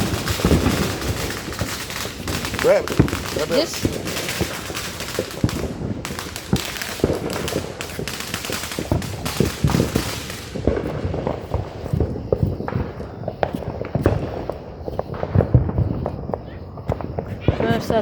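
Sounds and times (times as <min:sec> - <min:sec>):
fireworks crackling hiss: 0:00.0 - 0:18.0
fireworks pops and bangs: 0:00.0 - 0:18.0.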